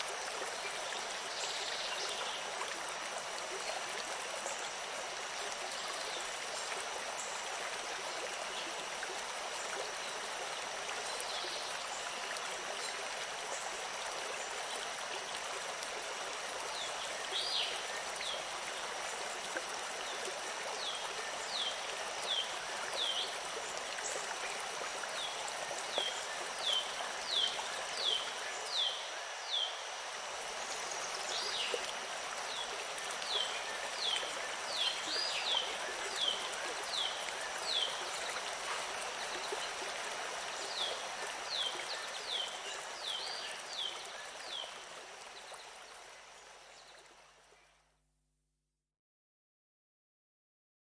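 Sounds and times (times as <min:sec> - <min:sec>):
flowing stream rushing: 0:00.0 - 0:47.4.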